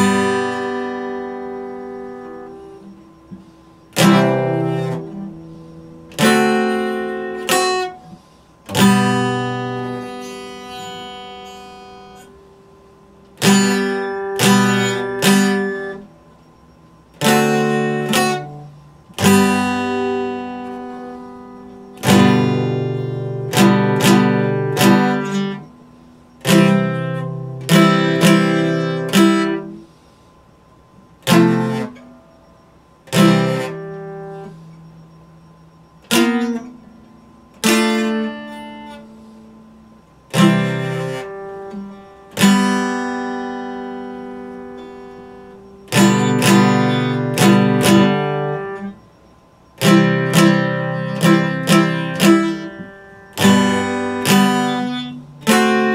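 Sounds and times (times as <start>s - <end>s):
acoustic guitar strummed: 0.0s - 55.9s.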